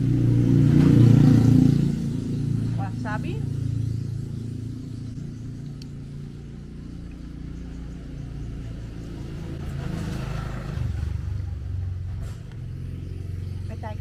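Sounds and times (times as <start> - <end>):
motor engine humming: 0.0 - 14.0.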